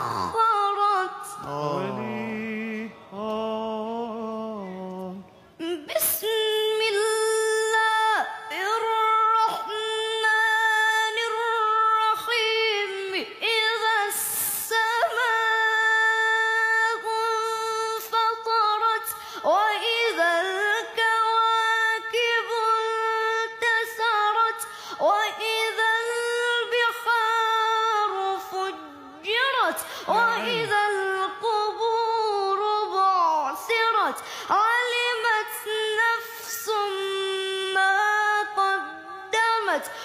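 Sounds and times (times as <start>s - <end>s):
boy chanting recitation: 0.0s - 40.0s.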